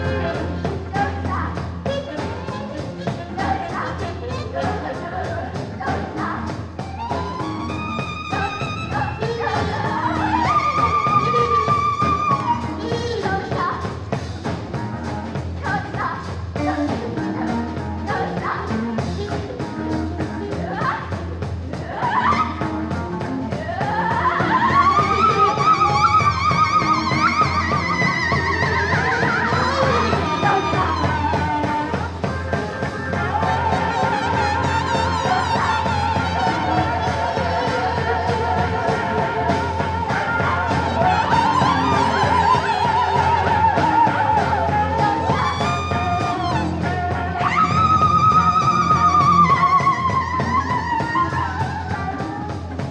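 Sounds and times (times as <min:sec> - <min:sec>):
person singing: 0:00.0 - 0:14.0, 0:23.5 - 0:52.9
bass line: 0:00.0 - 0:52.9
drum beat: 0:00.0 - 0:52.9
percussion: 0:00.0 - 0:52.9
rock band playing: 0:00.0 - 0:52.9.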